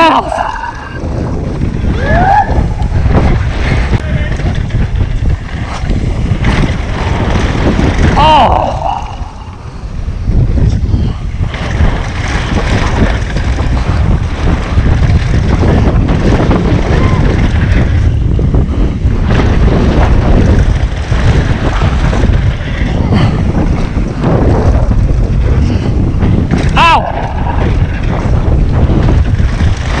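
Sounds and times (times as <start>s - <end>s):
bike tyres on dirt trail: 0.0s - 30.0s
wind buffeting microphone: 0.0s - 30.0s
bike knocks and rattles: 1.0s - 9.3s, 10.3s - 30.0s.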